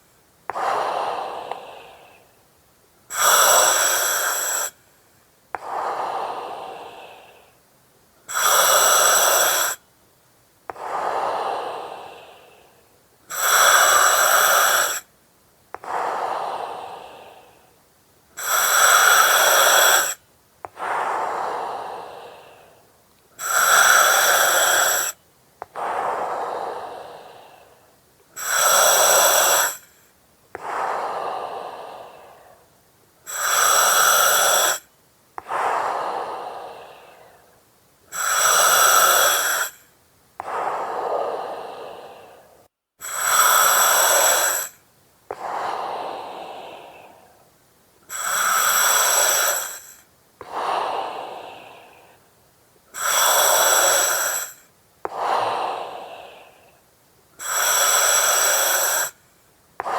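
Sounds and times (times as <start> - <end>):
breathing through oxygen mask: 0.0 - 2.3, 3.1 - 4.8, 8.3 - 9.8, 10.7 - 15.1, 18.4 - 52.3, 52.9 - 56.8, 57.4 - 59.2.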